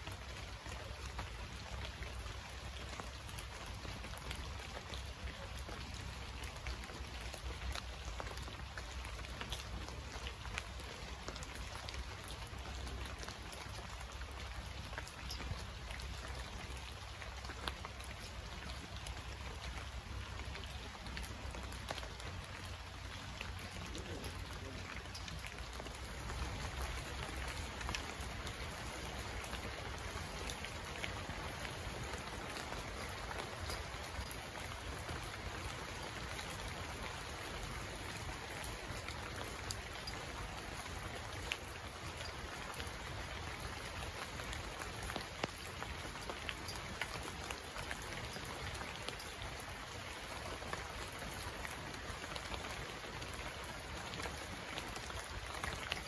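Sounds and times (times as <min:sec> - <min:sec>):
raindrops ticking: 0:00.0 - 0:56.0
steady rainfall: 0:00.0 - 0:56.0.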